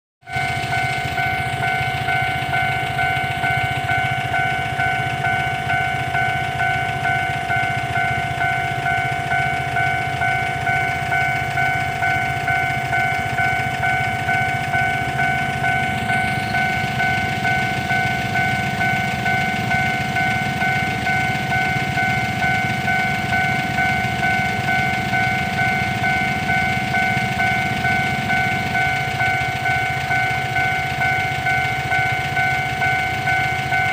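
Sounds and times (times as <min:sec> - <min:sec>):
level crossing warning bell: 0:00.2 - 0:33.9.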